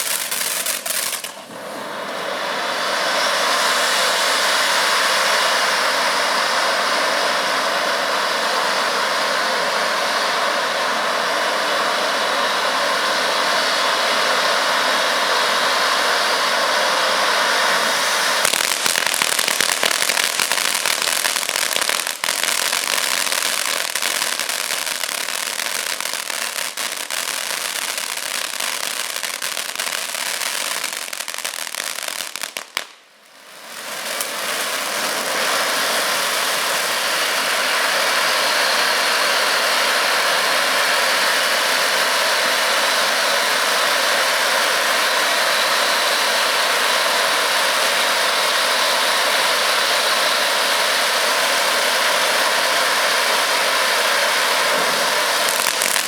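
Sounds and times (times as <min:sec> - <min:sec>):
firework fountain hissing and crackling: 0:00.0 - 0:56.0.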